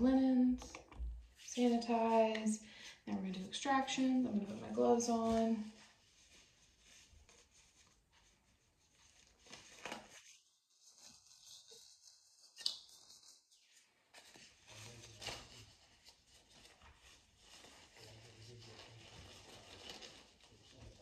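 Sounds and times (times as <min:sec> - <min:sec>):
gloves rustling: 0:00.0 - 0:21.0.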